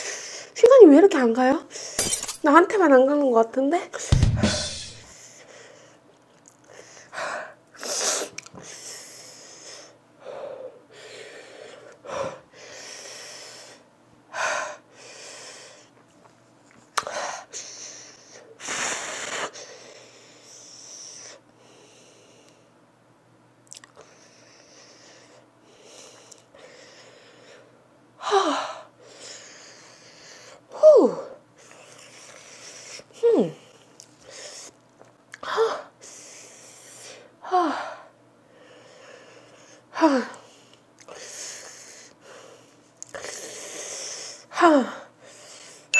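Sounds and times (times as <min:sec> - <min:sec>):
woman panting and hissing breaths: 0:00.0 - 0:00.8, 0:01.6 - 0:02.0, 0:03.9 - 0:16.0, 0:17.0 - 0:22.8, 0:24.0 - 0:34.8, 0:35.4 - 0:45.9.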